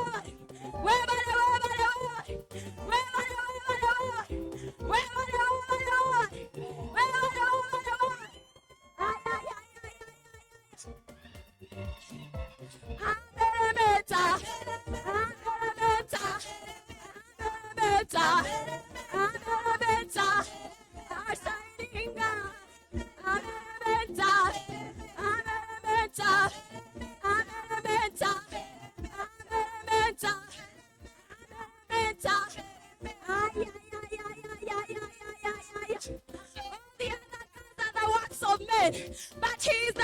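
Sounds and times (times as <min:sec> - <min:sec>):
person singing worship music: 0:00.0 - 0:40.0.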